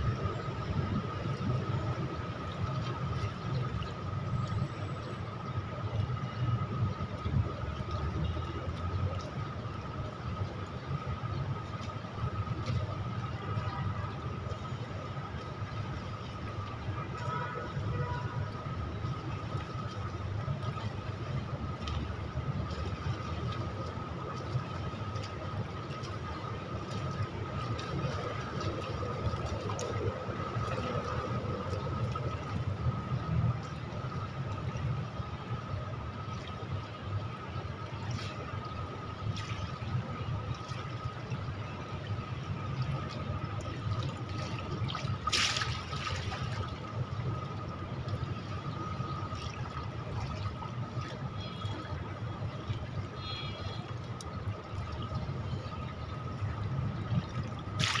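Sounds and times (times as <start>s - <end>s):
pool water sloshing: 0.1s - 58.0s.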